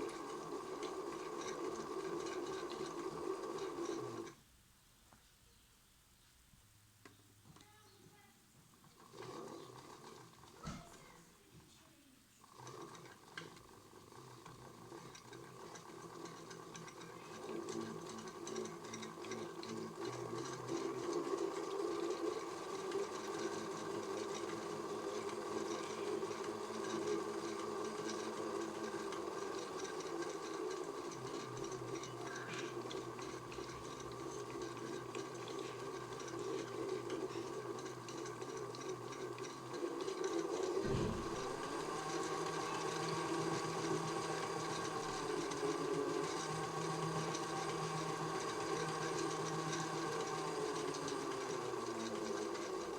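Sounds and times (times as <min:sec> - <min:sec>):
small electric motor whining: 0:00.0 - 0:04.4, 0:12.5 - 0:52.9.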